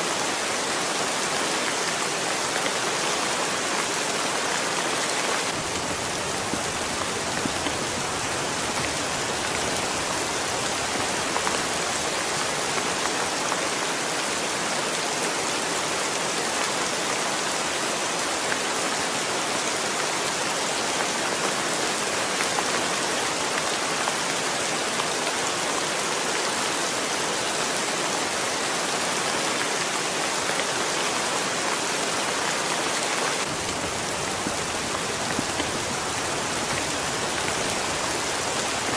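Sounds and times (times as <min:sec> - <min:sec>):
heavy rain on stone steps: 0:00.0 - 0:38.9.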